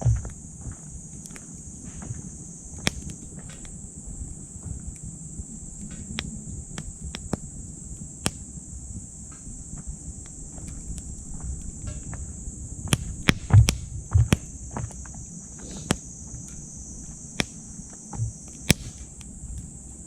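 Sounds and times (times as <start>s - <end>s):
dull low thuds: 0.0s - 20.0s
insect chorus: 0.0s - 20.0s
sharp pops: 0.0s - 20.0s
wood fire crackling: 0.0s - 20.0s.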